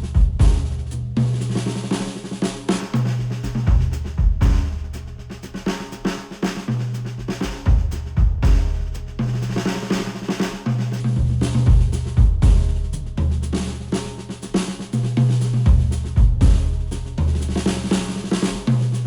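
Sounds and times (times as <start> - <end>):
instrumental music with drums and bass: 0.0 - 19.0.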